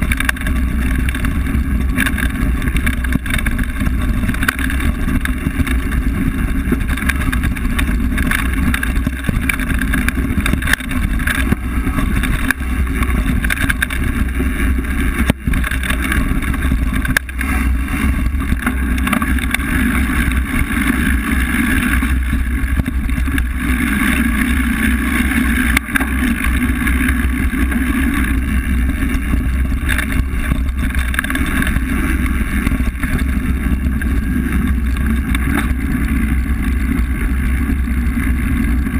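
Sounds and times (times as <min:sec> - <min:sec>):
bike rattling over bumps: 0:00.0 - 0:38.9
wind and tyre rumble: 0:00.0 - 0:38.9.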